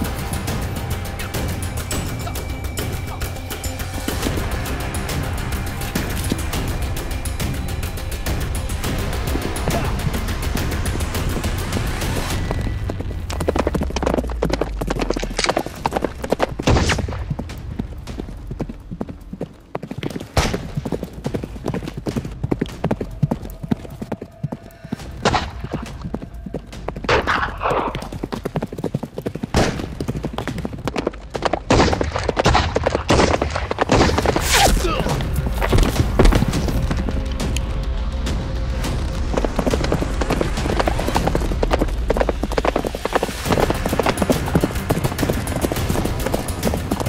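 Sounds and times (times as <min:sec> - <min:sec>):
galloping hoofbeats: 0:00.0 - 0:47.0.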